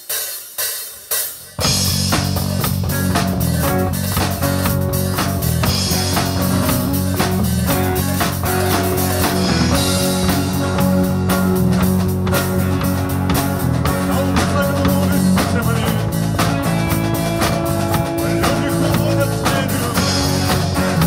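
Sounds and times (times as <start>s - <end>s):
drum kit: 0.0s - 21.0s
bass guitar: 1.5s - 21.0s
electric and acoustic guitars: 1.6s - 21.0s.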